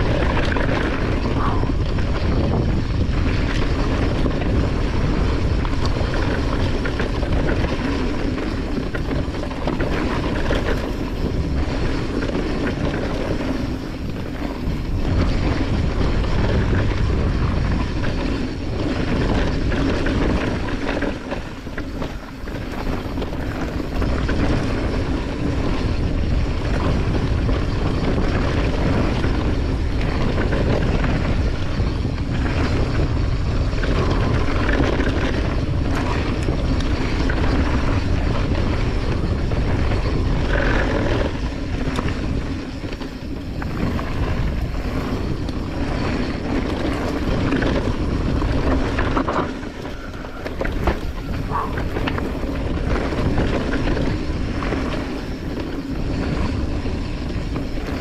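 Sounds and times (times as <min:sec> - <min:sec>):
bike rattling: 0:00.0 - 0:58.0
tyres rolling on dirt: 0:00.0 - 0:58.0
wind buffeting microphone: 0:00.0 - 0:58.0.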